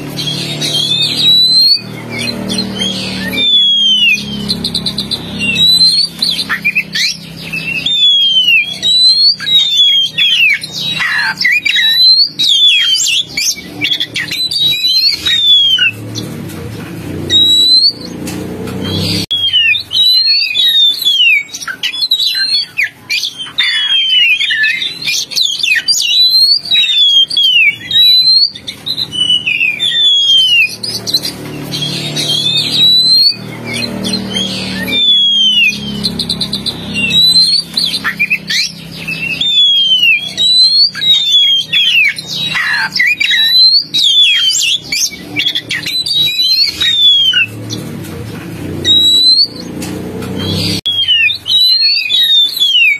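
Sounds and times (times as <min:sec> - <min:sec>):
bird singing whistled notes: 0:00.0 - 0:16.3, 0:17.2 - 0:18.2, 0:18.8 - 0:47.9, 0:48.7 - 0:49.8, 0:50.4 - 0:52.9
bird chattering calls: 0:00.0 - 0:16.4, 0:18.9 - 0:49.8, 0:50.4 - 0:52.9.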